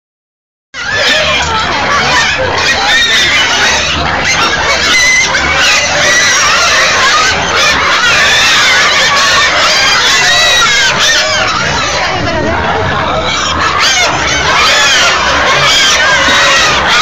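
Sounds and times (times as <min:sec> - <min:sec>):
pigs squealing: 0:00.8 - 0:17.0.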